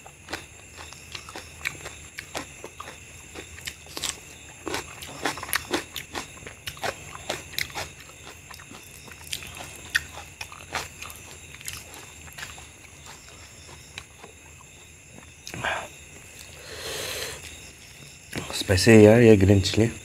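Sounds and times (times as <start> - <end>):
biting and chewing: 0.0 - 16.6
eating by hand: 0.0 - 18.6.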